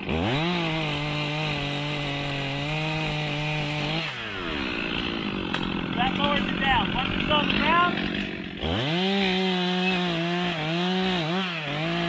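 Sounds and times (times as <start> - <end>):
chainsaw cutting log: 0.0 - 12.0.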